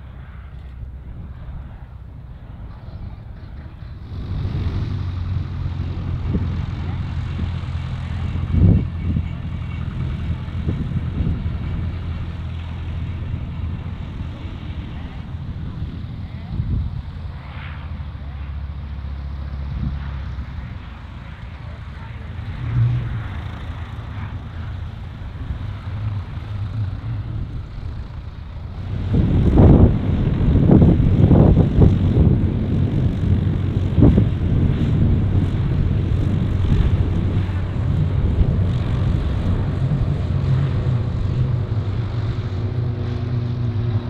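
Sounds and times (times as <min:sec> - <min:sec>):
light aircraft propeller: 0:00.0 - 0:44.0
wind gusts on microphone: 0:00.0 - 0:44.0.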